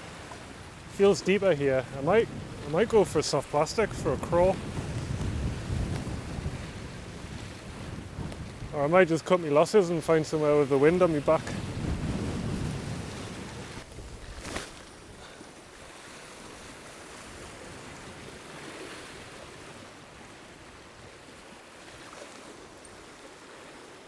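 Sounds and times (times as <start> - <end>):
waves washing over rocks: 0.0 - 24.0.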